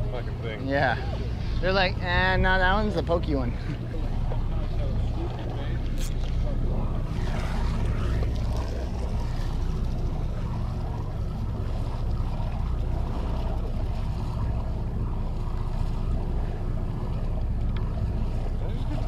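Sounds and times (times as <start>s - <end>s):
boat engine droning: 0.0s - 19.0s
water noise: 0.0s - 19.0s.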